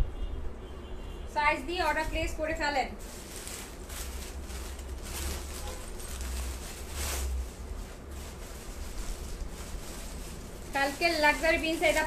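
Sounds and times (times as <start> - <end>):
cloth garments rustling: 1.7 - 12.0.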